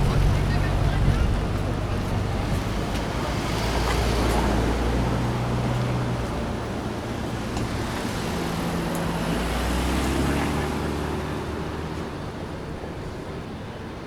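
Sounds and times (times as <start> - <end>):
road traffic engines humming: 0.0 - 14.0.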